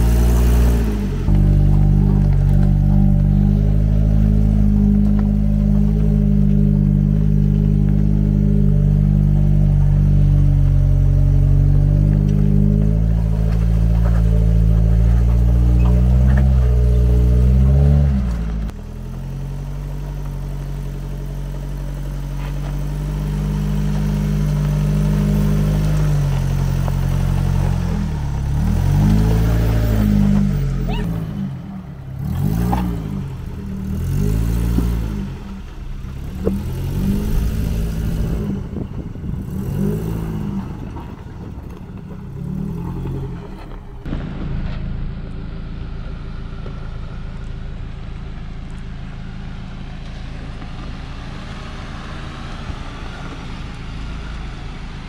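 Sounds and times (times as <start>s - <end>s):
off-road vehicle engine revving: 0.0s - 55.0s
steady engine sound: 0.0s - 55.0s.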